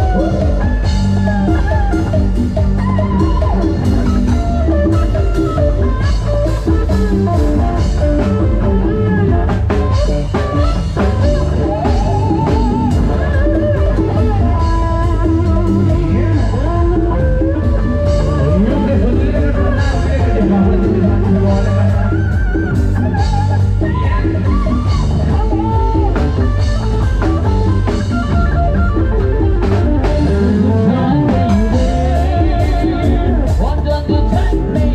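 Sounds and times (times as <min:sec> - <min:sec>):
drum kit: 0:00.0 - 0:34.9
electric guitar lead: 0:00.0 - 0:34.9
heavy bass: 0:00.0 - 0:34.9
keyboard: 0:00.0 - 0:34.9.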